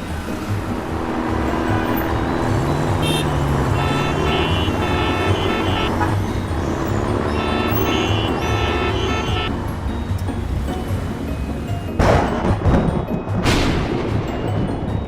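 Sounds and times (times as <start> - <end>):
background music: 0.0 - 15.0
vehicle engine rumbling: 0.0 - 15.0.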